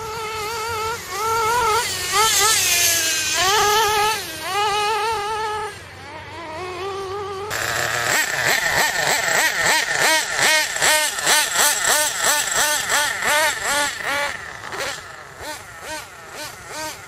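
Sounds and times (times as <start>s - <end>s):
model car engine revving: 0.0s - 17.0s.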